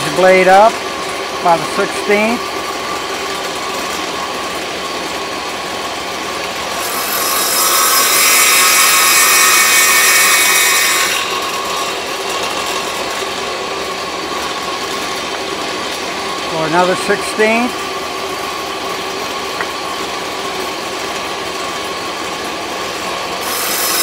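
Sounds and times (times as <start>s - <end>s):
table saw cutting wood: 0.0s - 24.0s.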